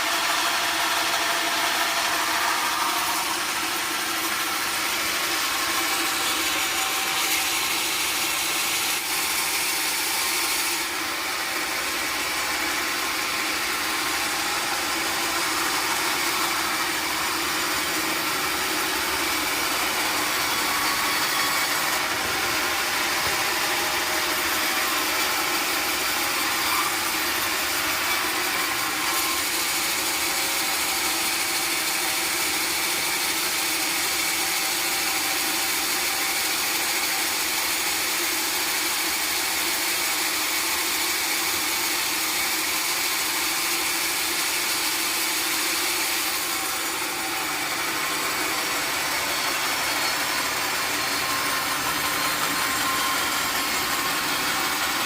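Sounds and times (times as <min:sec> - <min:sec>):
saw cutting wood: 0:00.0 - 0:55.0
sawmill machinery running: 0:00.0 - 0:55.0.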